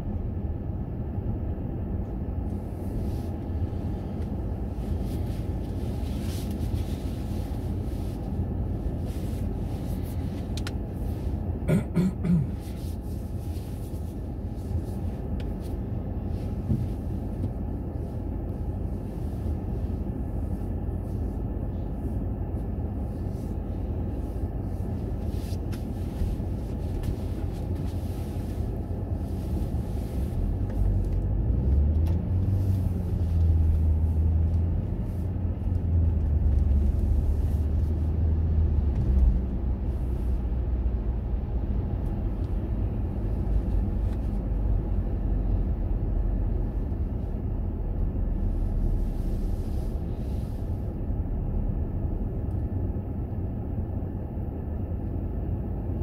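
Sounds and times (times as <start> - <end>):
deep engine hum: 0.0 - 56.0
traffic rumble: 0.0 - 56.0.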